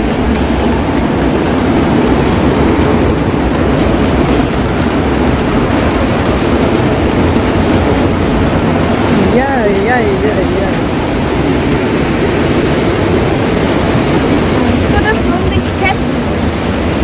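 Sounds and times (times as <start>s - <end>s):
churning water rushing: 0.0s - 17.0s.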